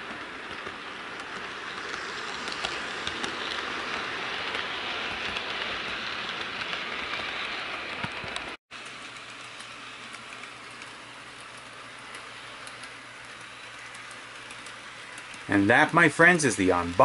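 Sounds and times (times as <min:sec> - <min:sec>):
model train rolling hiss: 0:00.0 - 0:17.0.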